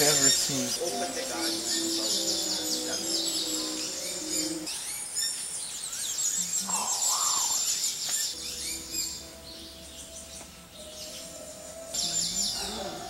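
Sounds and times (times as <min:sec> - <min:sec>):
birds chirping: 0:00.0 - 0:13.0
soft music of held chords: 0:00.0 - 0:13.0.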